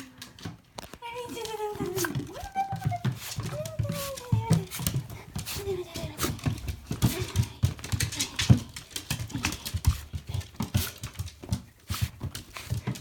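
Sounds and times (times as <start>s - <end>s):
puppy claws tapping on hard floor: 0.1s - 13.0s.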